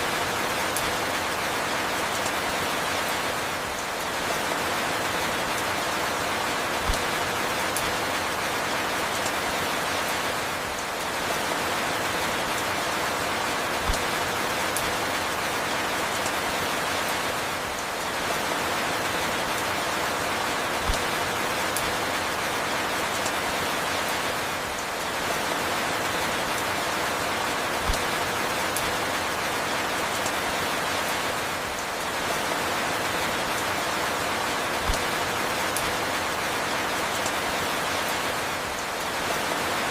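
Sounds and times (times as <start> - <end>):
steady falling rain: 0.0 - 39.9.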